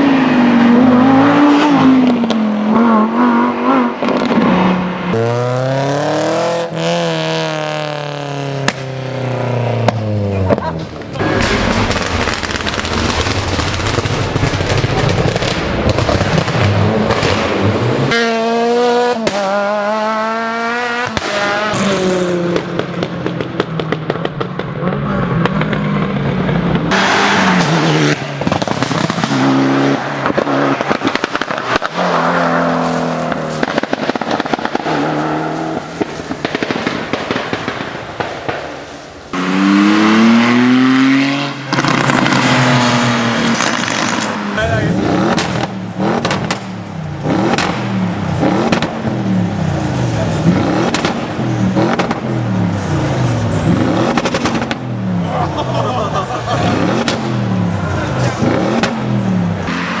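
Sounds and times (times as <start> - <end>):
exhaust popping and backfiring: 0.0 - 60.0
race car engines revving: 0.0 - 60.0.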